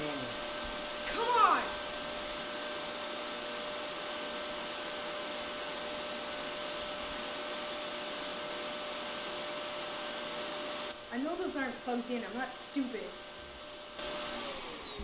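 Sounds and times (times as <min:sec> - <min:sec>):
vacuum cleaner motor running: 0:00.0 - 0:15.0.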